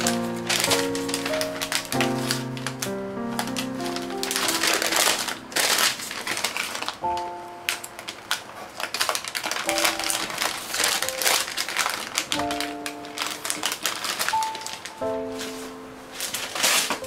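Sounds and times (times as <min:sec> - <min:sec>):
background music with held notes: 0:00.0 - 0:08.1, 0:09.6 - 0:17.0
newspaper crinkling: 0:00.0 - 0:17.0.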